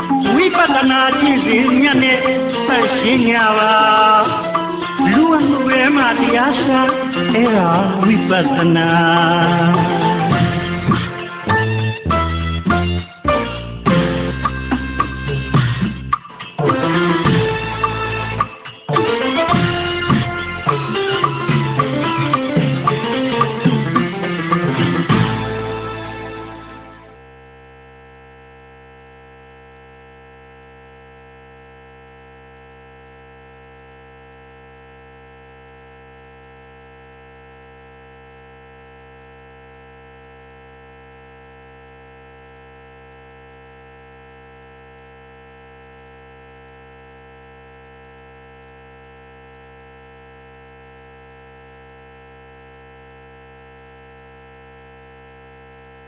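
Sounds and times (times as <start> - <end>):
electrical hum with buzz: 0.0 - 56.0.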